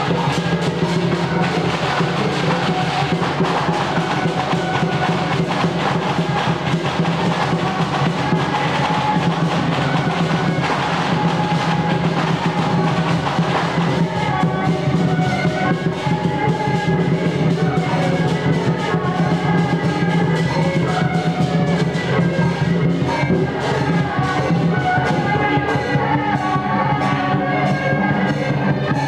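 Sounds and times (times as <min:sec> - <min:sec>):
drumming and percussion: 0:00.0 - 0:29.0.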